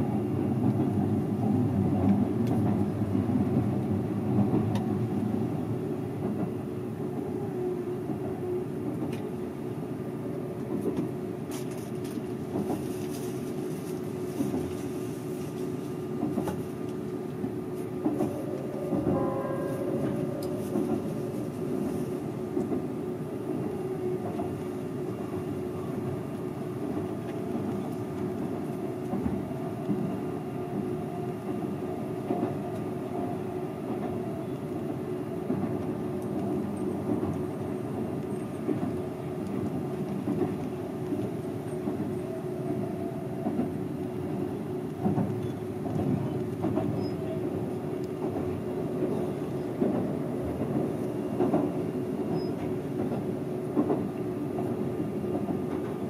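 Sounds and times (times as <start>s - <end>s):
continuous train hum: 0.0s - 56.0s
train wheels rumbling on rail: 0.0s - 56.0s
rail joint clicks: 0.1s - 7.3s, 8.1s - 9.4s, 10.6s - 14.7s, 16.0s - 56.0s.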